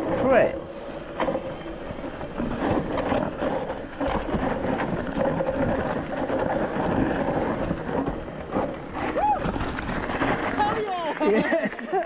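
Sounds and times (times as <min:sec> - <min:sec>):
bike knocks and rattles: 0:00.0 - 0:12.0
bike tyre and frame rumble: 0:00.0 - 0:12.0.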